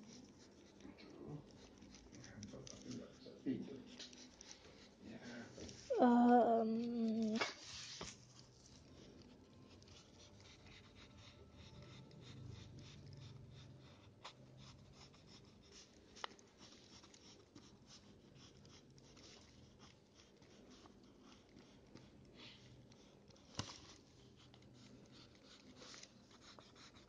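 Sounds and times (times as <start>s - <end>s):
pencil scratching on paper: 0.0s - 5.9s, 6.8s - 27.0s.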